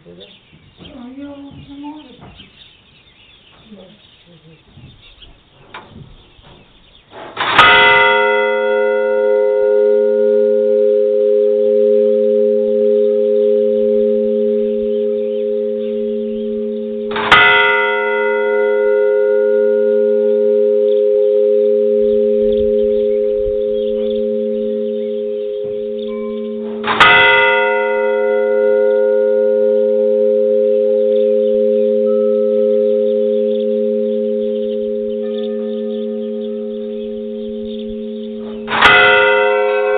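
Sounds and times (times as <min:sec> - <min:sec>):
large church bell ringing: 0:05.0 - 0:39.9.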